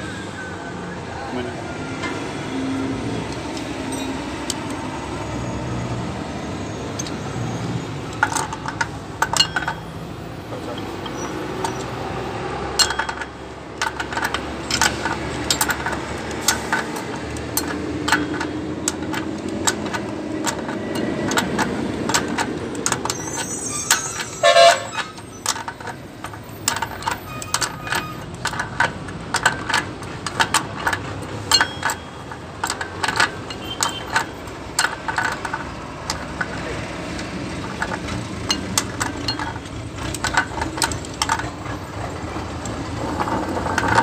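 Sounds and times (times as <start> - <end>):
pipe wrench clicking on metal nut: 7.0 - 7.2, 8.1 - 10.0, 10.6 - 44.0.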